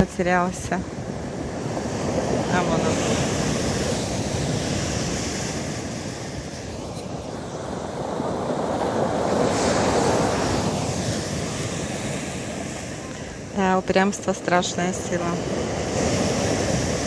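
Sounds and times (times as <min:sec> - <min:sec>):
surf breaking on stony beach: 0:00.0 - 0:17.0.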